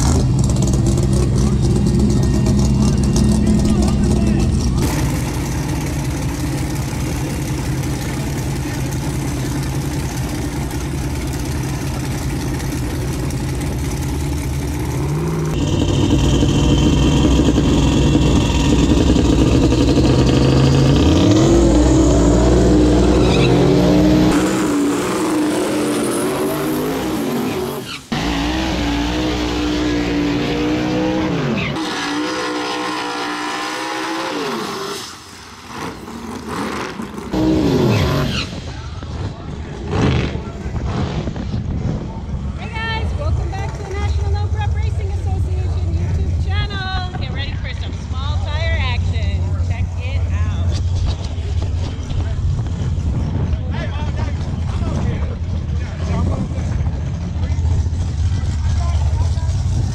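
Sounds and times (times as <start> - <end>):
drag car engine revving: 0.0 - 59.9.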